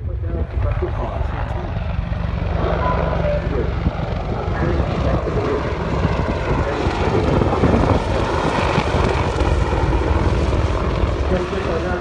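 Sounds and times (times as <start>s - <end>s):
helicopter rotor and engines rumbling: 0.0s - 12.0s.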